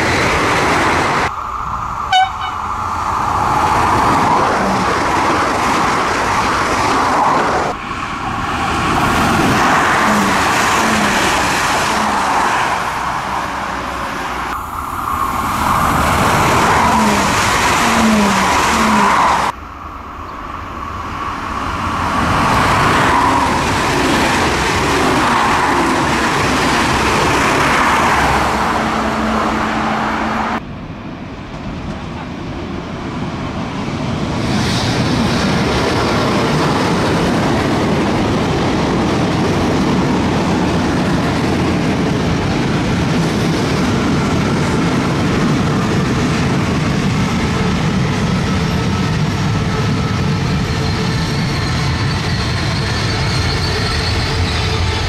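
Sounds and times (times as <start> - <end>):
low steady train rumble: 0.0 - 55.0
train passing at speed: 0.0 - 55.0.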